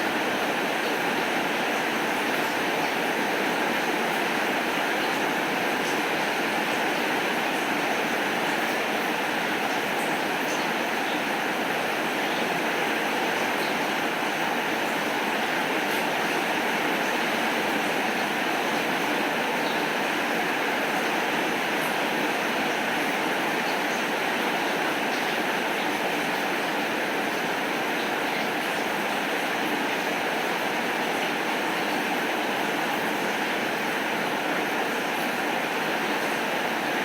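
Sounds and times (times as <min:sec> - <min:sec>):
steady rainfall: 0:00.0 - 0:37.0.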